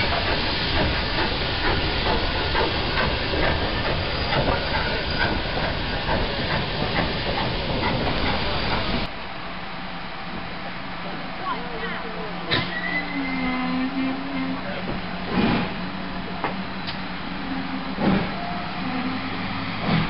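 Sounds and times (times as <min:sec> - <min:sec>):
steam locomotive hissing: 0:00.0 - 0:09.1, 0:12.4 - 0:20.0.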